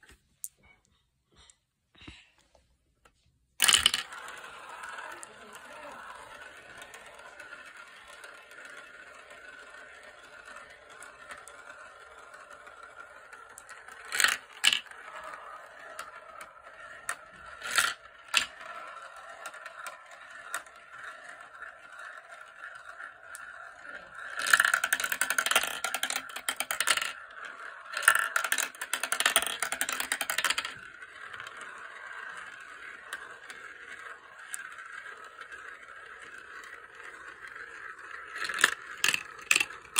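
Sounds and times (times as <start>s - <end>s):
marbles clacking: 3.6s - 39.9s
marbles rattling clatter: 3.6s - 39.9s
marbles rolling whir: 3.6s - 39.9s.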